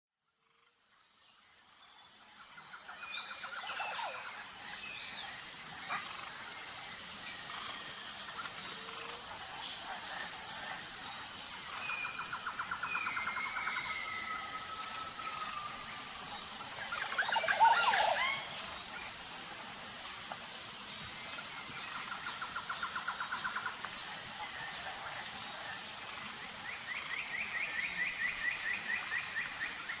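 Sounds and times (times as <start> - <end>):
background hiss: 0.4 - 30.0
pulsing high buzz: 1.6 - 30.0
birds calling and trilling: 2.4 - 30.0.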